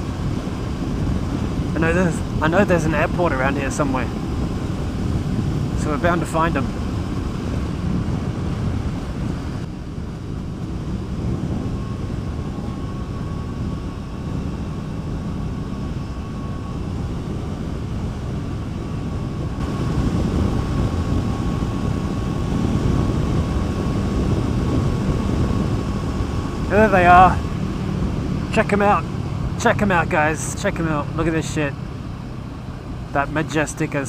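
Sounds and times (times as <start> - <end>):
wind noise: 0.0 - 34.0.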